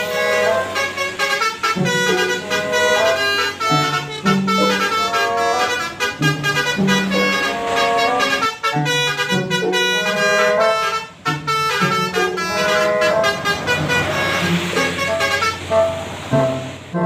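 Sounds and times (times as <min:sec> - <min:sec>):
air horns playing a melody: 0:00.0 - 0:17.0
passing vehicle rush: 0:00.0 - 0:17.0.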